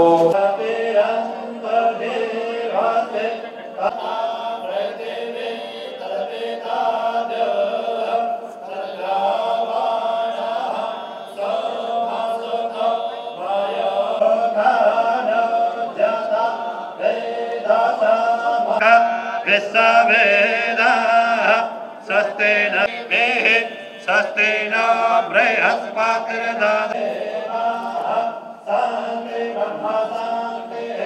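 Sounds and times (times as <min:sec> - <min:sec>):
men chanting in unison: 0:00.0 - 0:31.0.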